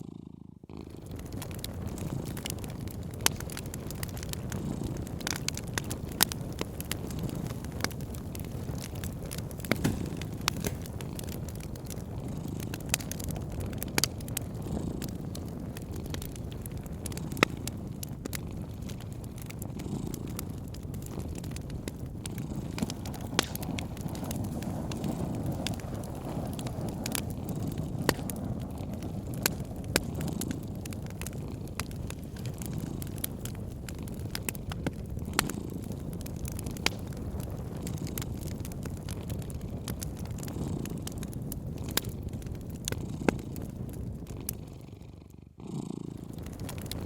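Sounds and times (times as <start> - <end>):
cat purring: 0.0 - 47.0
low rumble of burning: 0.0 - 47.0
wood fire crackling: 0.2 - 47.0.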